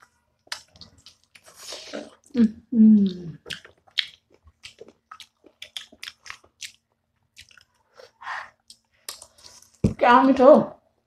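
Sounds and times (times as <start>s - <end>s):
wet chewing and crunching: 0.0s - 2.4s, 3.0s - 9.8s.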